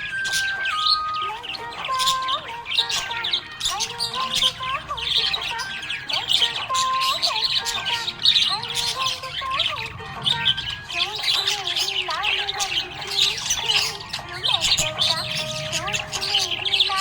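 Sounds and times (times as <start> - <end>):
budgerigar chirping: 0.0 - 17.0.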